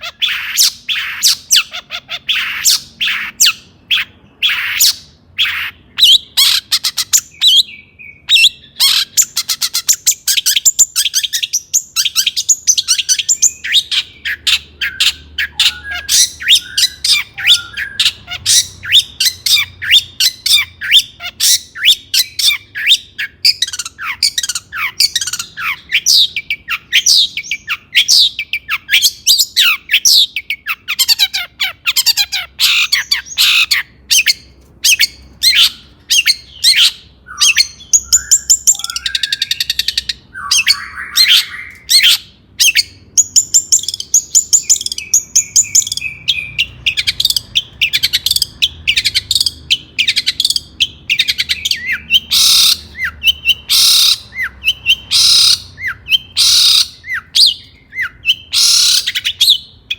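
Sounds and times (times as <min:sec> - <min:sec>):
harsh rasping bird chatter: 0:00.0 - 0:07.7, 0:08.3 - 0:59.9
bird singing rapid sharp notes: 0:00.0 - 0:59.9.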